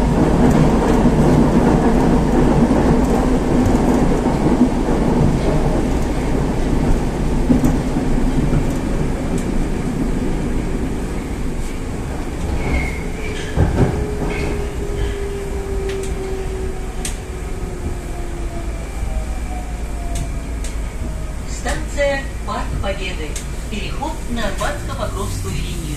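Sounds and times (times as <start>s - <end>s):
metro car rumble: 0.0s - 25.9s.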